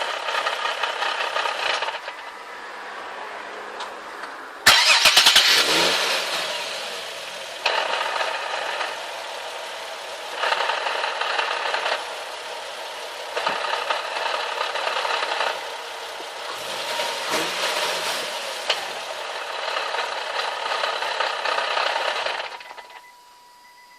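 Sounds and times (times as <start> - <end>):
car engine idling: 0.0 - 23.6.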